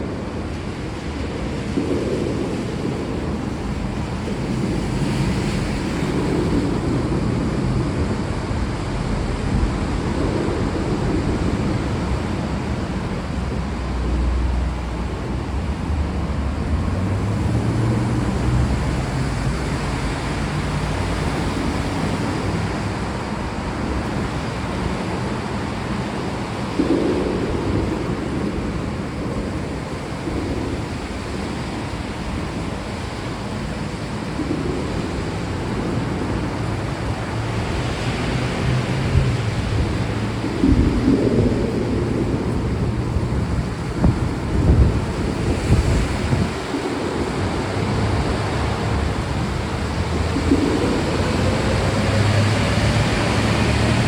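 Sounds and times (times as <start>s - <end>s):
distant thunder rumble: 0.0s - 54.0s
heavy rain: 0.0s - 54.0s.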